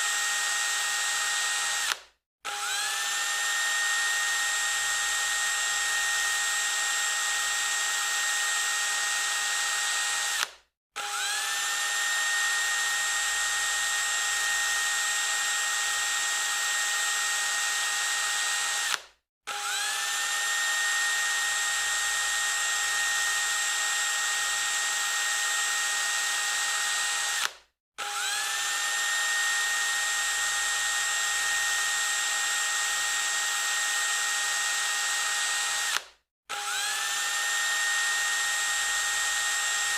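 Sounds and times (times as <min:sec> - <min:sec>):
electric drill whining: 0:00.0 - 0:39.9.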